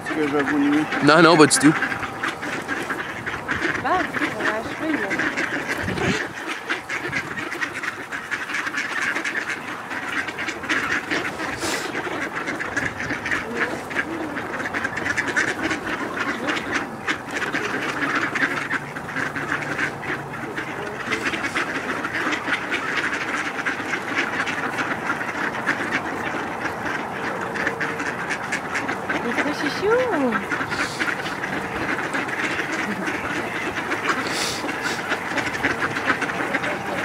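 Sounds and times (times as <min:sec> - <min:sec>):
ducks quacking and chattering: 0:00.0 - 0:37.0.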